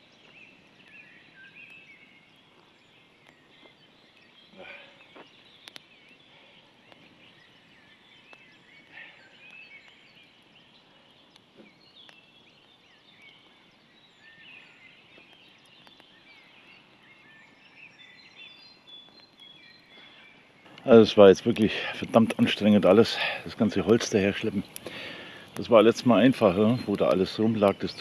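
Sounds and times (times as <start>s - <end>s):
campfire crackling: 0.0s - 28.0s
songbirds chirping and singing: 0.0s - 28.0s.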